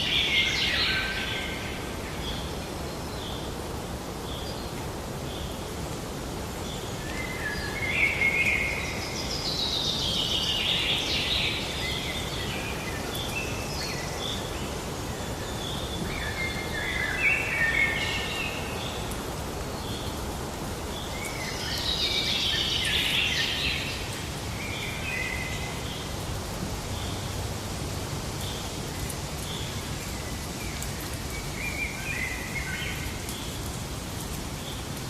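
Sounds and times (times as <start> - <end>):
songbirds singing: 0.0 - 27.6, 28.3 - 34.0
steady background hiss: 0.0 - 35.0.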